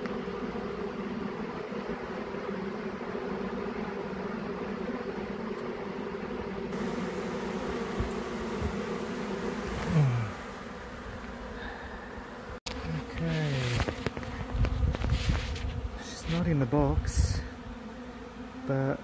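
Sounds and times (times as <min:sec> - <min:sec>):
bees flying past: 0:00.0 - 0:19.0
swarm of bees buzzing: 0:00.0 - 0:19.0.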